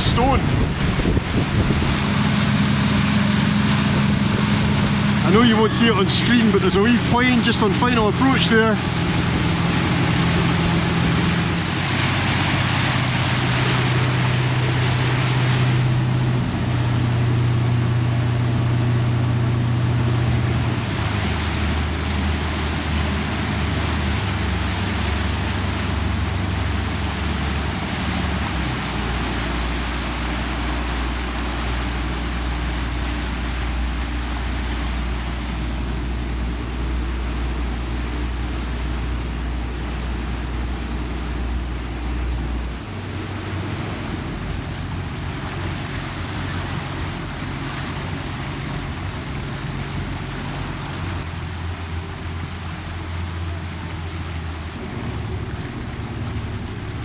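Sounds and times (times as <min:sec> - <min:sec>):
boat engine running: 0:00.0 - 0:57.0
rushing wind: 0:00.0 - 0:57.0
water rushing: 0:00.0 - 0:57.0.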